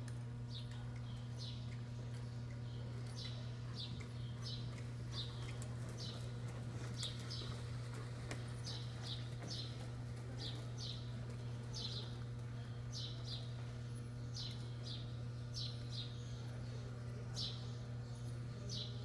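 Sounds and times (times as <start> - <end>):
steady low hum: 0.0 - 19.0
small birds chirping: 0.5 - 19.0.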